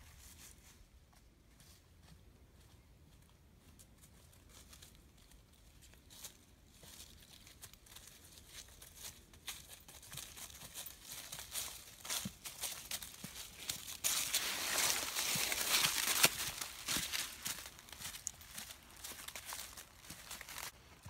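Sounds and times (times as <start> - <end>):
footsteps through dry leaves: 3.6 - 20.8.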